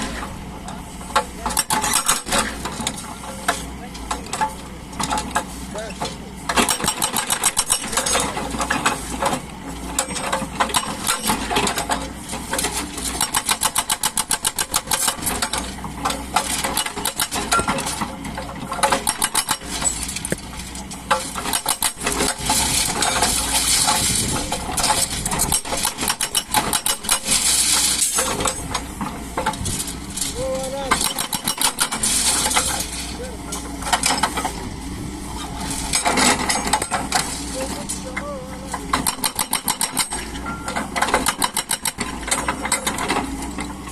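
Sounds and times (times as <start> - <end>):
clicks and rattles: 0.0 - 34.6, 35.3 - 43.9
excavator engine running: 0.0 - 43.9.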